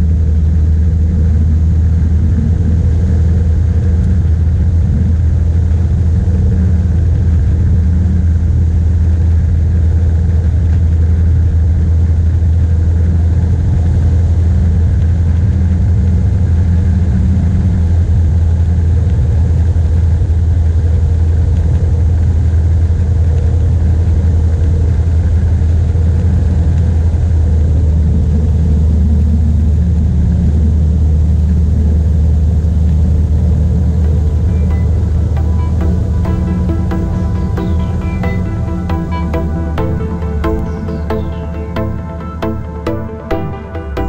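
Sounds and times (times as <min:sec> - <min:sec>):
aircraft engine drone in cockpit: 0:00.0 - 0:44.0.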